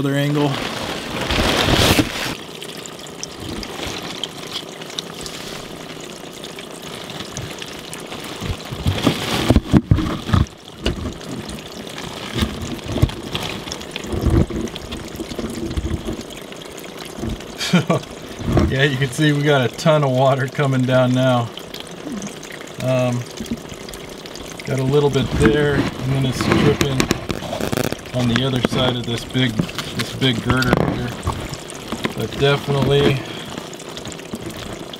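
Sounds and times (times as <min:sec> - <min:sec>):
water pouring and dripping: 0:00.0 - 0:34.9.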